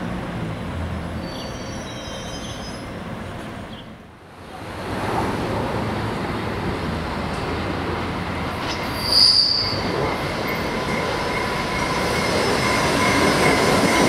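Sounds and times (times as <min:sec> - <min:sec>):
approaching train rail noise: 0:00.0 - 0:14.0
electric train rumbling: 0:00.0 - 0:14.0.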